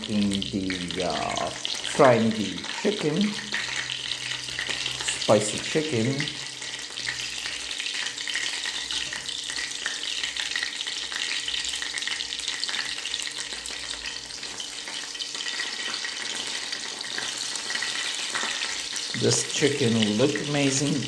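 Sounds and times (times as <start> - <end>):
chicken frying in hot oil: 0.0 - 21.0.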